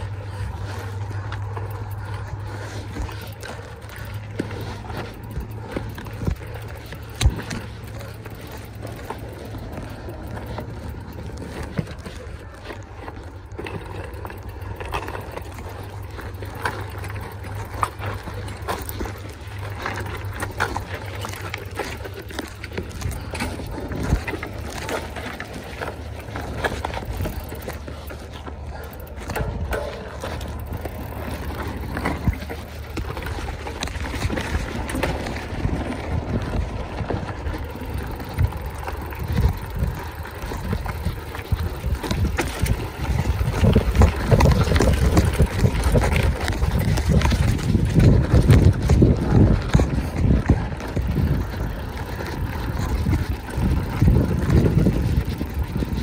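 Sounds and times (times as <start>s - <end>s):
bike rattling clicks and knocks: 0.0s - 56.0s
bike tyre noise: 0.0s - 56.0s
wind buffeting microphone: 0.0s - 56.0s.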